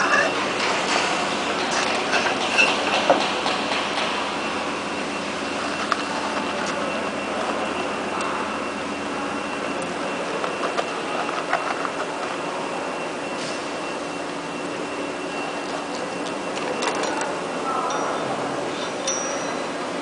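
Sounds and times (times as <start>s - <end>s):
machinery running: 0.0s - 20.0s
steady high whine: 0.0s - 20.0s.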